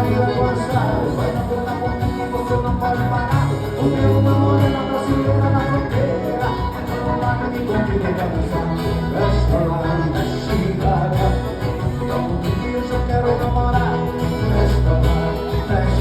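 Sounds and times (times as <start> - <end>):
instrumental folk dance music: 0.0 - 16.0.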